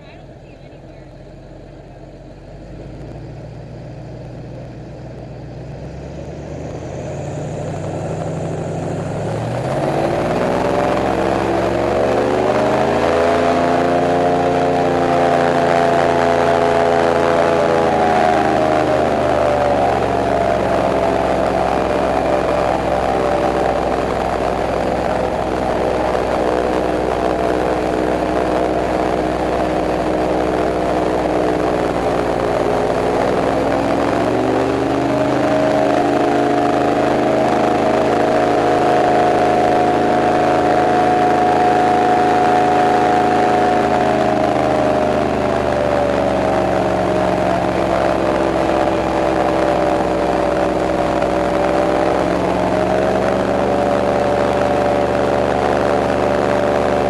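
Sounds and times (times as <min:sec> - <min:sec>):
airboat engine and propeller: 0:00.0 - 0:57.0.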